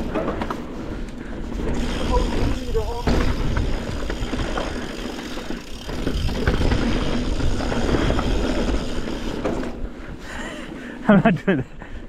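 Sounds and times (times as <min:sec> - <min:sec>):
mountain bike rumbling and rattling: 0:00.0 - 0:11.0.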